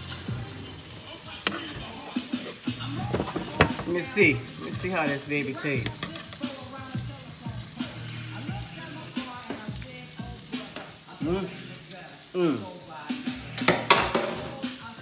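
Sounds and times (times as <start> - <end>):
food sizzling in hot pans: 0.0 - 15.0.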